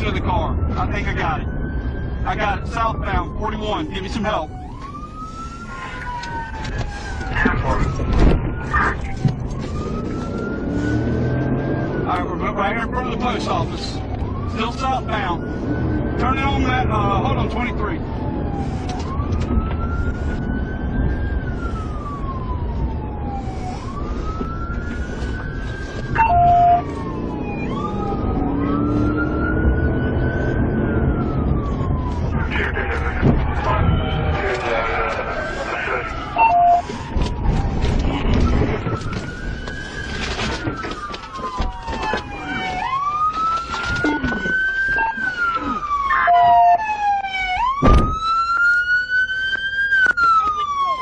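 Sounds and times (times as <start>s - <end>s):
car engine and road noise: 0.0s - 51.0s
police siren wailing: 0.0s - 51.0s.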